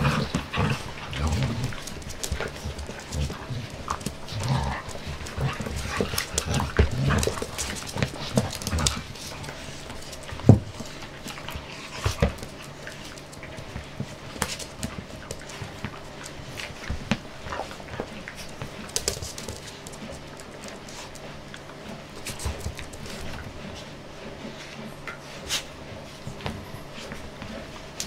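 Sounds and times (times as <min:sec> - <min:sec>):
dogs growling: 0:00.0 - 0:26.4
dogs panting: 0:00.0 - 0:28.0.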